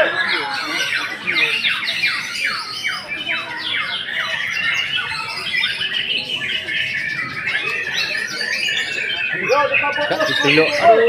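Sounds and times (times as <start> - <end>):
other birds warbling: 0.0 - 11.0.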